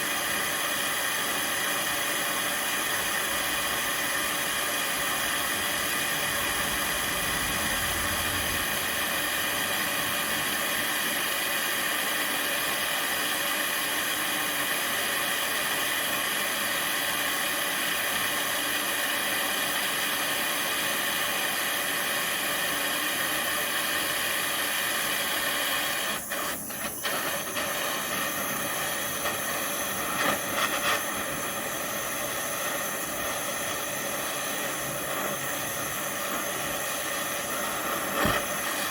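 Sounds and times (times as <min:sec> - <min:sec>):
gas torch hissing: 0:00.0 - 0:38.9.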